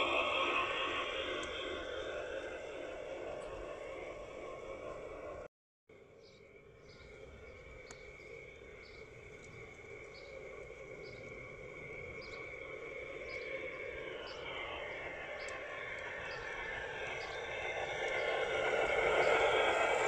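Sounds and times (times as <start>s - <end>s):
model locomotive running on track: 0.0s - 20.0s.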